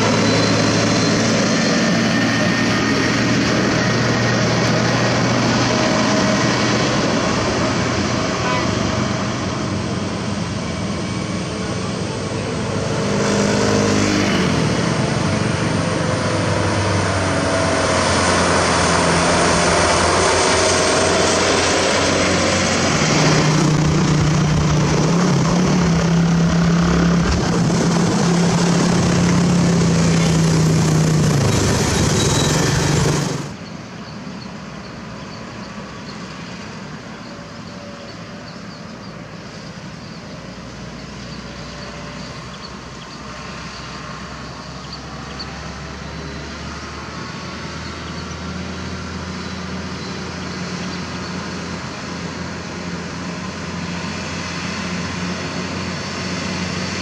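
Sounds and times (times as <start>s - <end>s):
approaching truck engine: 0.0s - 57.0s
heavy diesel truck engine: 0.0s - 57.0s.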